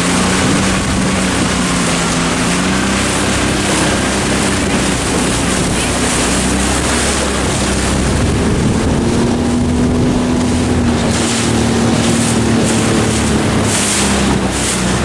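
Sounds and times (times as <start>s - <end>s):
outboard engine running: 0.0s - 15.0s
water rushing past: 0.0s - 15.0s
wind buffeting microphone: 0.0s - 15.0s.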